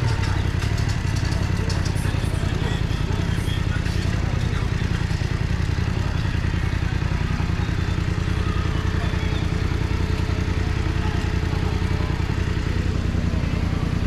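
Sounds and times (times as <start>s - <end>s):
faint crowd chatter: 0.0s - 14.0s
motorcycle engine idling: 0.0s - 14.0s.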